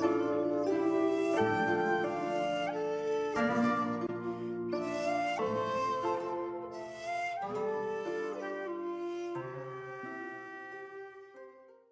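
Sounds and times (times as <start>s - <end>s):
flute playing held notes: 0.0s - 11.8s.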